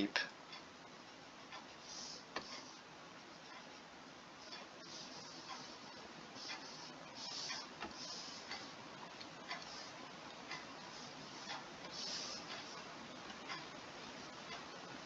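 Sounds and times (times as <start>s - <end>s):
clock ticking: 0.0s - 15.0s
soft hissy rustles: 0.1s - 15.0s.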